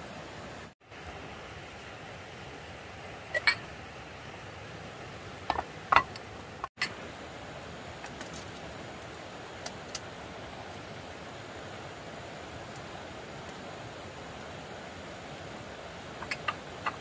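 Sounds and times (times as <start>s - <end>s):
steady rushing background noise: 0.0s - 17.0s.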